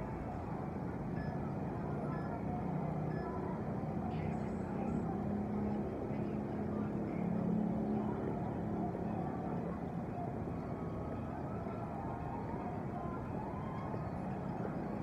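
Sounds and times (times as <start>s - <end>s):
rumble of vehicle traffic: 0.0s - 15.0s.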